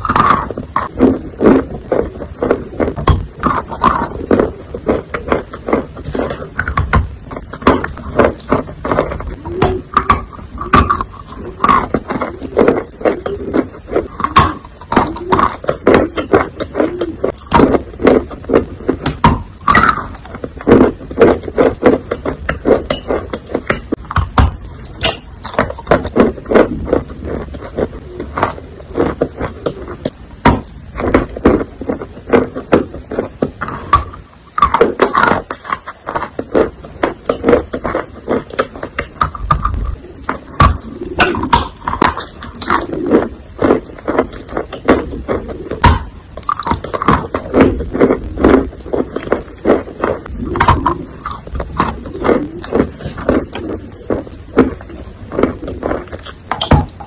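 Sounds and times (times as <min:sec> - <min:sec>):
moist mouth sounds: 0:00.0 - 0:57.0
person chewing crunchy chalk: 0:00.0 - 0:57.0.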